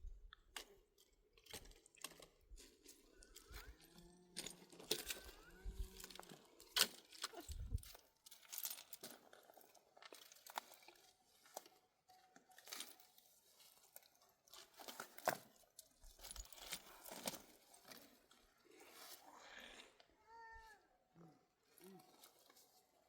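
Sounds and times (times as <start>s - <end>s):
faint crackles and rustling: 0.1s - 23.0s.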